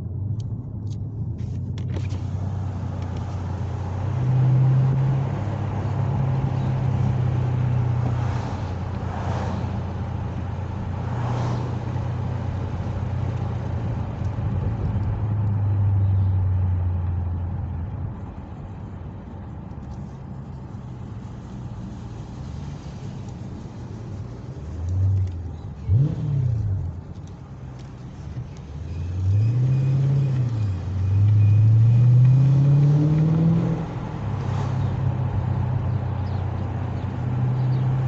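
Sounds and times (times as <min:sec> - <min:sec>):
car engine droning at low revs: 0:00.0 - 0:38.0.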